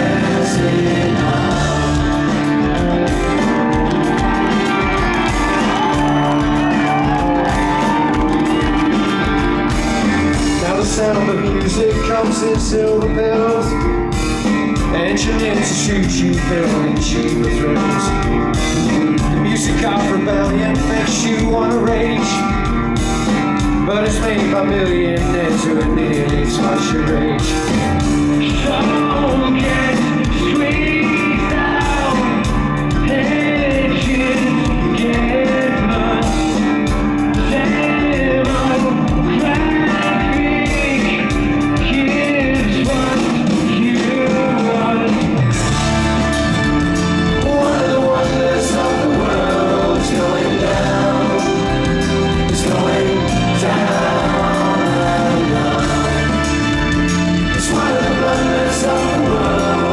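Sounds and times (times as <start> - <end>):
person singing: 0.0 - 46.3, 47.1 - 59.9
live rock band playing: 0.0 - 59.9.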